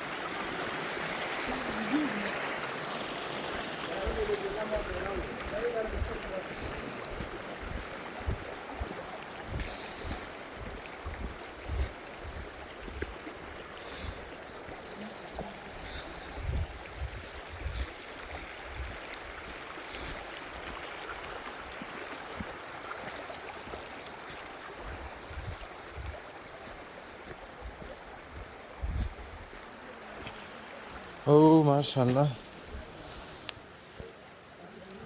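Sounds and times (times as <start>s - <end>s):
flowing water rushing: 0.0s - 35.0s.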